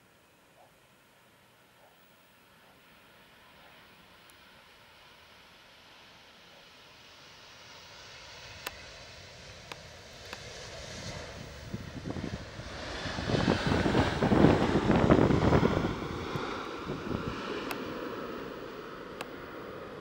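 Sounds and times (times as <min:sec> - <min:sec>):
jet engines rumbling on landing: 0:02.4 - 0:20.0.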